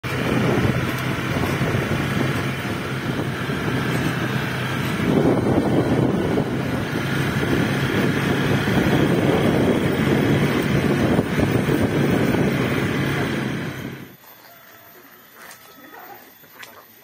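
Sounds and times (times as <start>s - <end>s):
scooter engine running: 0.0s - 14.2s
wind rushing over microphone: 0.0s - 14.2s.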